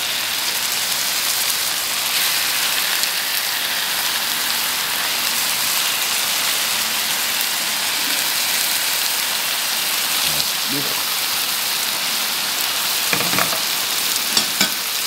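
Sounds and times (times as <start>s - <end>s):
paste sizzling in a wok: 0.0s - 15.0s.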